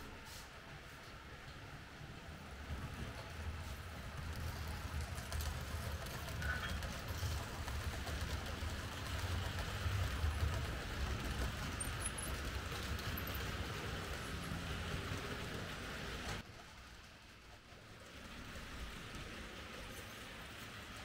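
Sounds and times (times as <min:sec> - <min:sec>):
model train running on track: 0:00.6 - 0:21.0.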